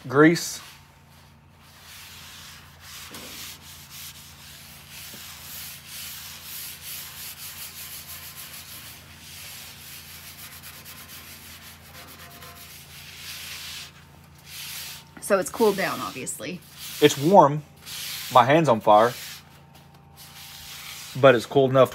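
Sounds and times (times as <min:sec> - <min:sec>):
paper towel rubbing griddle: 0:00.0 - 0:21.6.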